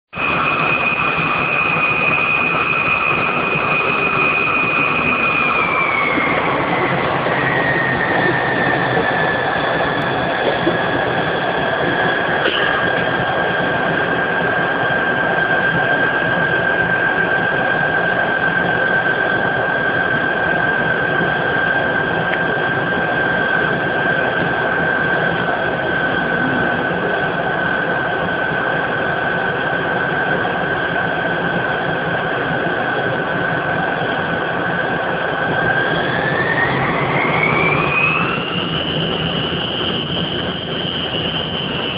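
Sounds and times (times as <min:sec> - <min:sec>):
jet engines whining in cabin: 0:00.1 - 0:41.9.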